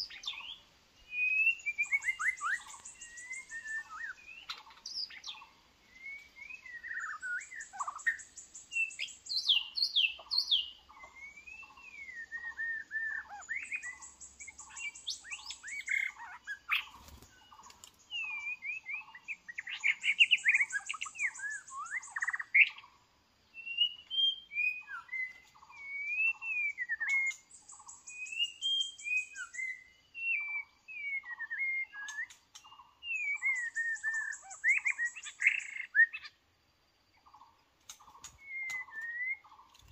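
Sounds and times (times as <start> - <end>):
birds whistling song: 0.0 - 36.5, 37.1 - 39.9.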